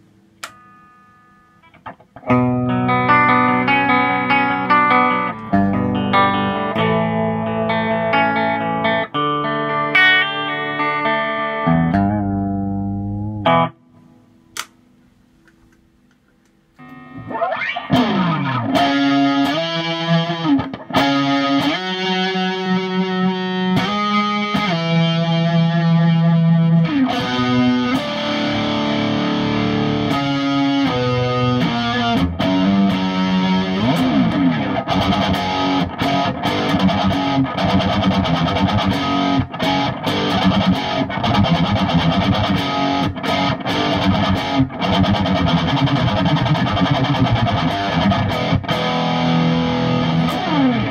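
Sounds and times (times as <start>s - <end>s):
distorted electric guitar: 0.0s - 14.7s, 16.8s - 50.9s.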